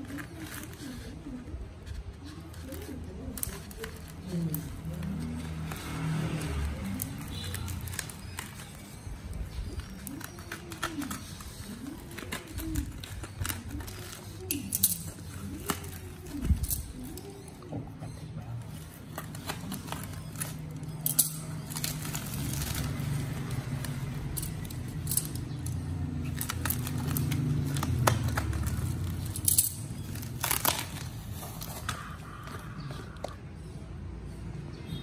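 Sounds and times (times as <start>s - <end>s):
plastic mailer bag crinkling: 2.3s - 17.7s, 18.6s - 32.6s.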